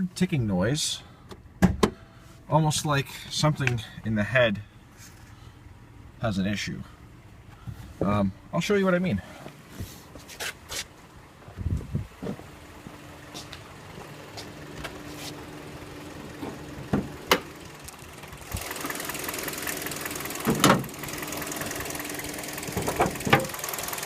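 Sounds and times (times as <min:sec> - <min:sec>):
car engine idling with ticking clatter: 0:00.0 - 0:24.0.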